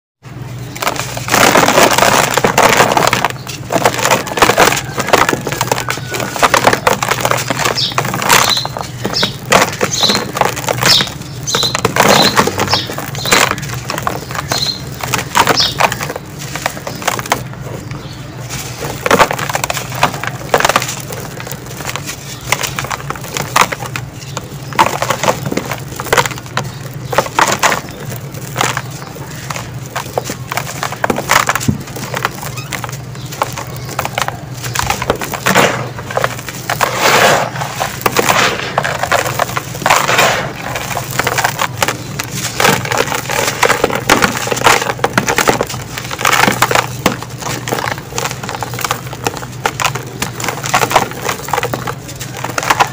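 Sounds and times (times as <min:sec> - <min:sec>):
hands crushing dry cement lumps: 0:00.3 - 0:52.9.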